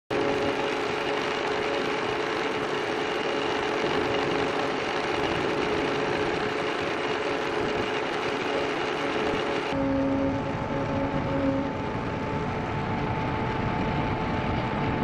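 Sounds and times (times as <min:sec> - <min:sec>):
lathe whirring: 0:00.1 - 0:15.0.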